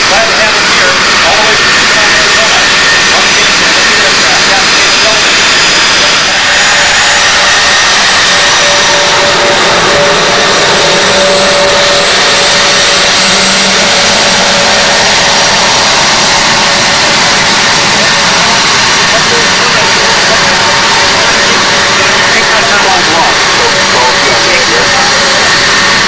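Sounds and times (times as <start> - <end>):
jet engine rushing hiss: 0.0 - 26.0.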